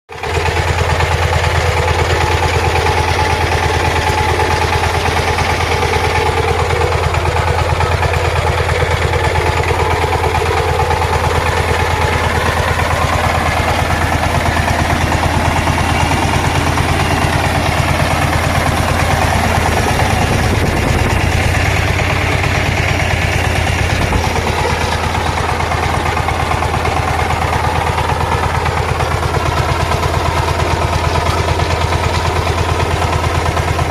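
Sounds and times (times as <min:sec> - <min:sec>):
power tiller engine chugging: 0:00.1 - 0:33.9.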